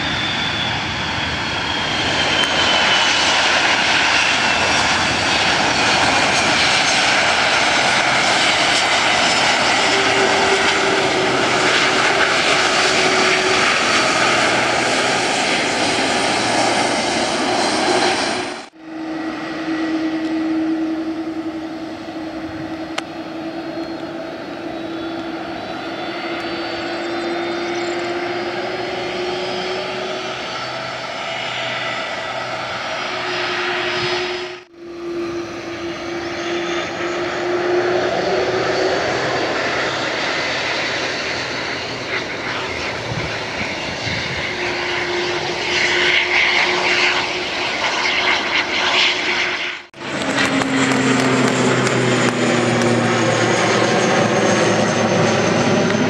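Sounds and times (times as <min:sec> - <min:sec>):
jet engines droning with whine: 0:00.0 - 0:56.0.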